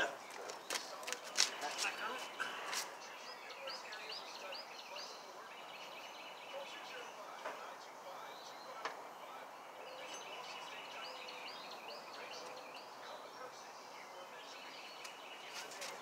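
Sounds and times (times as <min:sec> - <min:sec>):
bird chirping: 0:00.0 - 0:16.0
outdoor background noise: 0:00.0 - 0:16.0.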